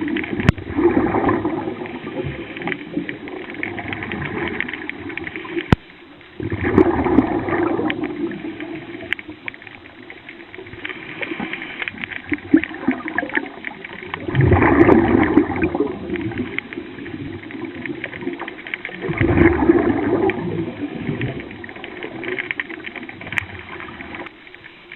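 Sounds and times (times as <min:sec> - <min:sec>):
underwater bubbling and gurgling: 0:00.0 - 0:24.9.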